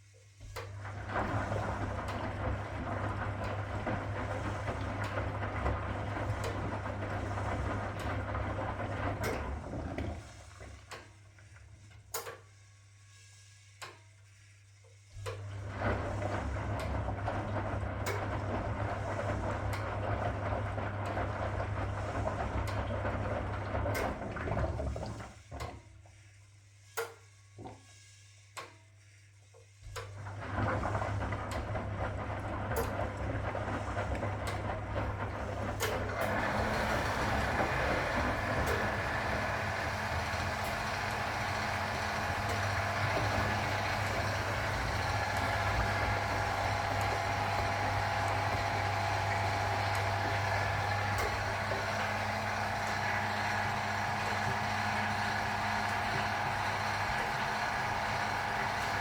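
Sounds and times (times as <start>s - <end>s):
washing machine motor hum: 0.4s - 12.3s, 15.2s - 26.1s, 29.8s - 59.0s.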